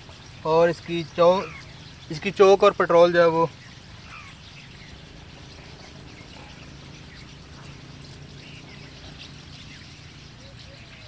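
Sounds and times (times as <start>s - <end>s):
faint bird chirps: 0.0s - 11.0s
low steady hum: 0.0s - 11.0s.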